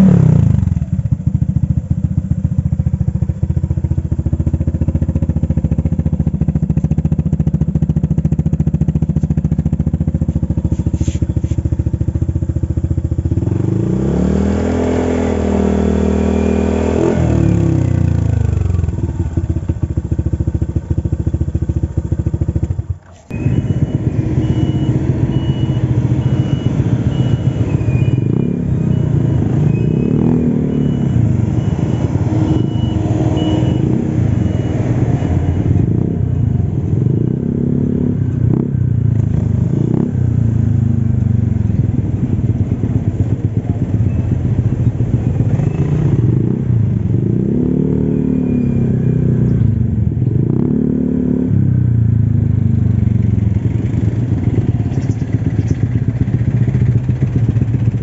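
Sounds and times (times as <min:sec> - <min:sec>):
scooter engine idling and revving: 0:00.0 - 0:58.0.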